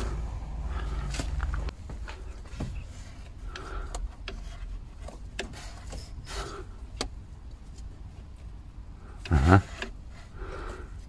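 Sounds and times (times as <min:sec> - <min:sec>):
rubbing and rustling: 0:00.0 - 0:08.9.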